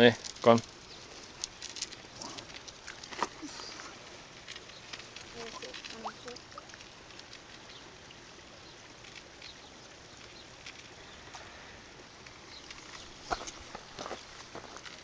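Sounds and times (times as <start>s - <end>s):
faint outdoor background noise: 0.0s - 15.0s
small ticks: 0.2s - 11.5s, 12.2s - 15.0s.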